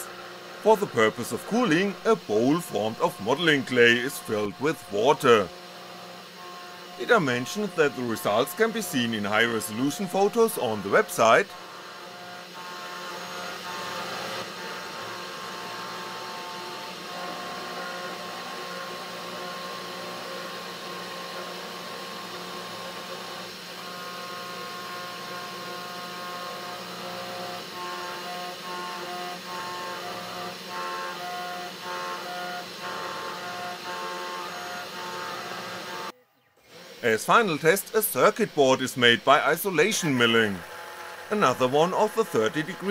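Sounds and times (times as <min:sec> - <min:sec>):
spindle motor running: 0:00.0 - 0:42.9
stepper motors whining: 0:00.0 - 0:42.9.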